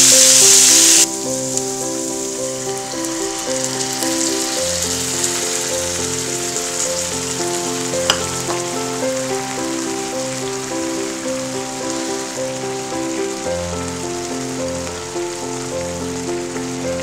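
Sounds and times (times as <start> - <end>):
liquid sizzling in a wok: 0.0 - 17.0
soft background music: 0.0 - 17.0.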